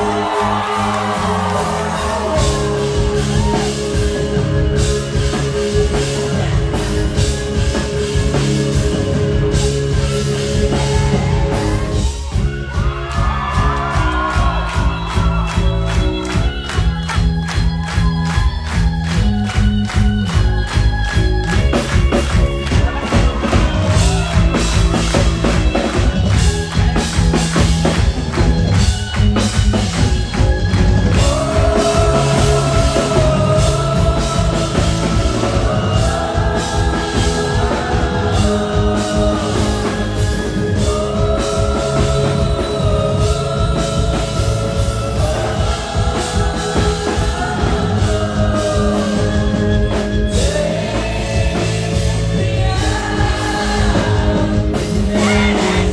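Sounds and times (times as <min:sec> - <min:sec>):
rock band playing: 0:00.0 - 0:55.9.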